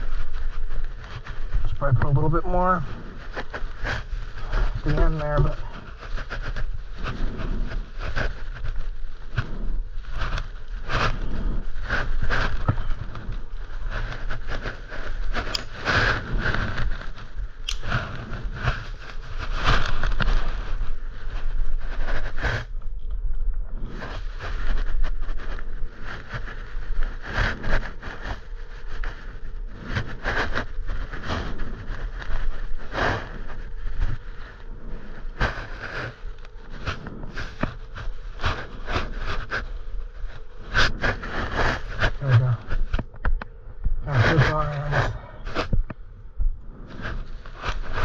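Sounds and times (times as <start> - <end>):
scraping and rustling handling noise: 0.0 - 46.1.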